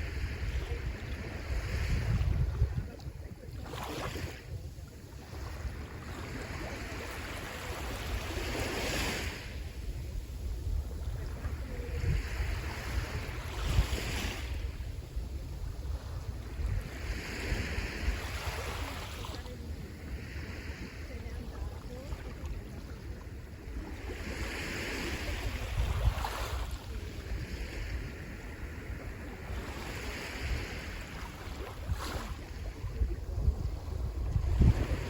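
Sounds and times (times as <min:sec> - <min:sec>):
sea waves breaking on shore: 0:00.0 - 0:35.0
wind rumble on microphone: 0:00.0 - 0:35.0.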